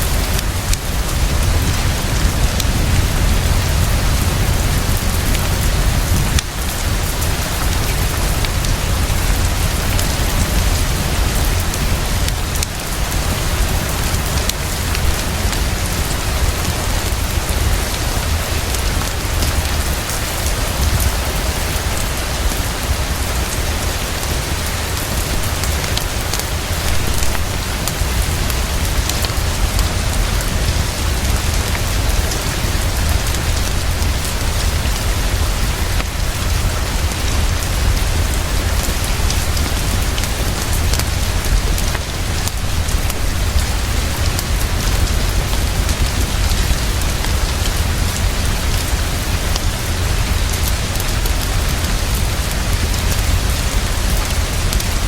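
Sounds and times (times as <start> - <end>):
heavy rainfall: 0.0 - 55.0.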